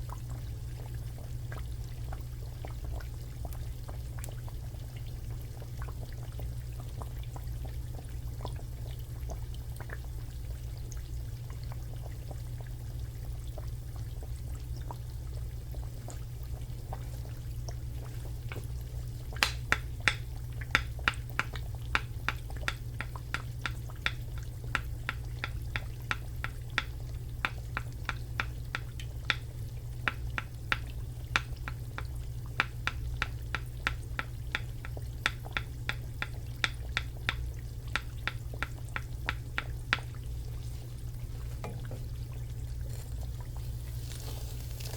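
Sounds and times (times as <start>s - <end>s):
shrimp frying in hot oil: 0.0s - 44.9s.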